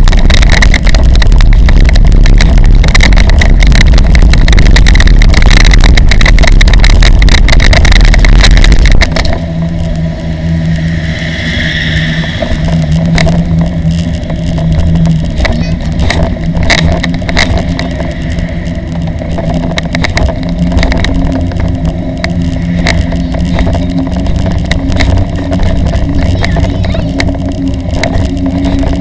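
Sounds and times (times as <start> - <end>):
trailer rattles and clicks: 0.0 - 10.2, 12.4 - 29.0
wheels rolling rumble: 0.0 - 29.0.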